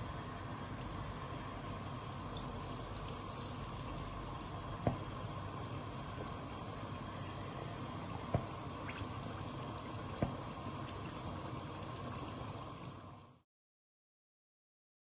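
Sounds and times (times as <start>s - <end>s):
dough frying in oil: 0.0s - 13.4s.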